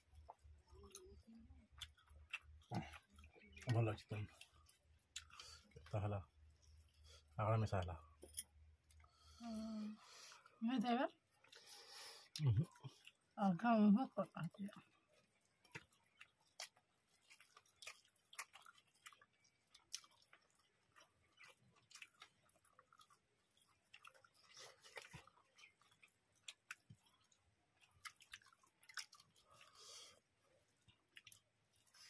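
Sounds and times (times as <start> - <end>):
chewing and lip-smacking: 0.0 - 9.3, 11.2 - 13.4, 14.2 - 32.0.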